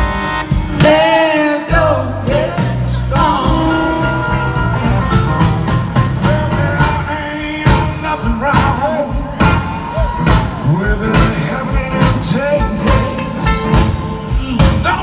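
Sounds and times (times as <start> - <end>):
drums keeping a steady beat: 0.0 - 15.0
live band playing soul-blues: 0.0 - 15.0.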